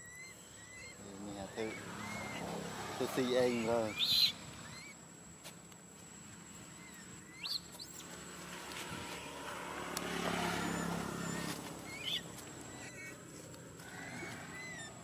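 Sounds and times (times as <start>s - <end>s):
motor vehicle passing by: 0.2s - 5.0s, 6.2s - 15.0s.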